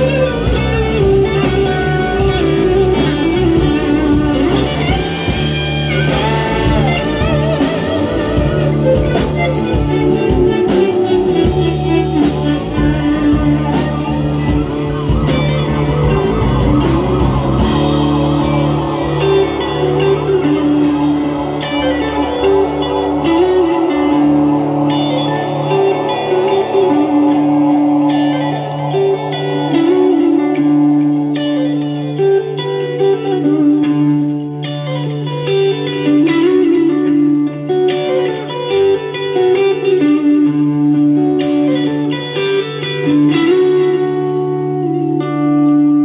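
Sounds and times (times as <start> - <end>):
bass and drums: 0.0 - 46.0
electric and acoustic guitars: 0.0 - 46.0
live rock band playing: 0.0 - 46.0.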